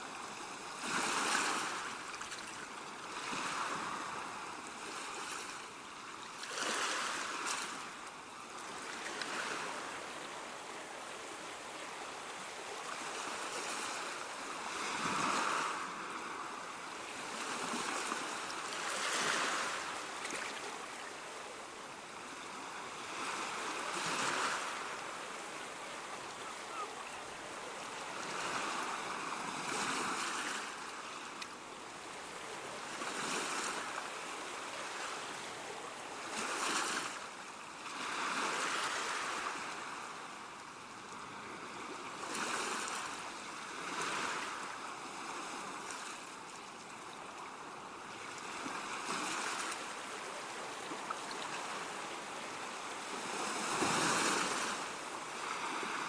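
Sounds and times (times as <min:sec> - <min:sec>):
ocean waves washing ashore: 0:00.0 - 0:56.0.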